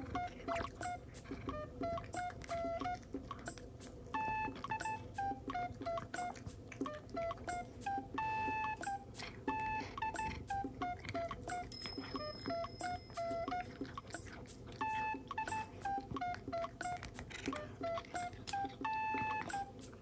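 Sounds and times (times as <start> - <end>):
bouncy electronic melody: 0.0 - 13.8, 14.8 - 20.0.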